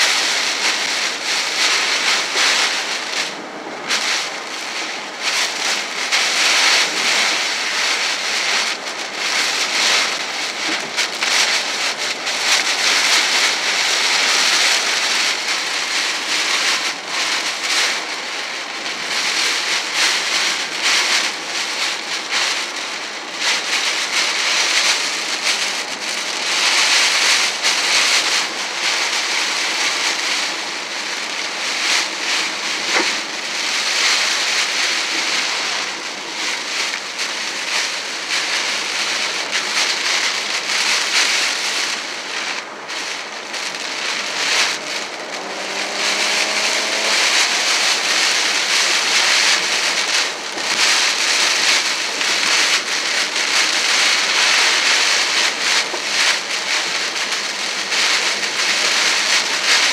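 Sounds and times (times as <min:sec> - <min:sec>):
heavy rain beating on a car: 0:00.0 - 0:59.9.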